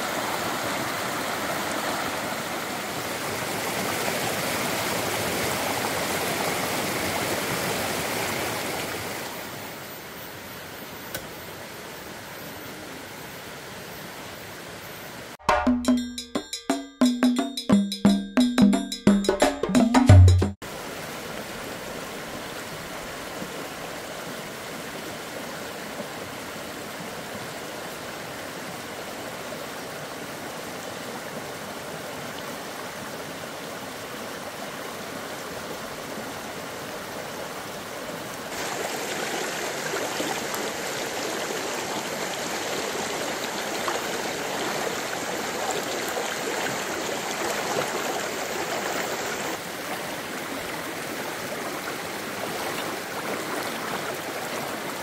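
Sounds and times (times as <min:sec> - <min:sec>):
stream water flowing: 0:00.0 - 0:15.4, 0:20.6 - 0:55.0.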